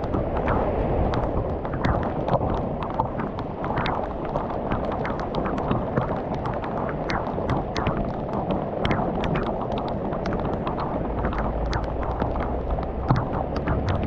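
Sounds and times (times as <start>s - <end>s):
heavy rain falling: 0.0s - 14.0s
raindrops ticking: 0.0s - 14.0s.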